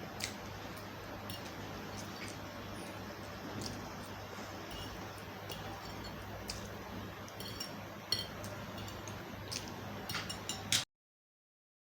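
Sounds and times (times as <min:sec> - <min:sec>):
chewing food: 0:00.1 - 0:10.3.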